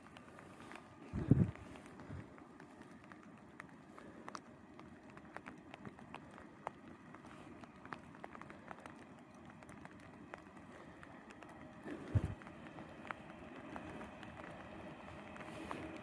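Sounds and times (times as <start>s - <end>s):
faint raindrops ticking: 0.0s - 16.0s
low outdoor rumble: 0.0s - 16.0s.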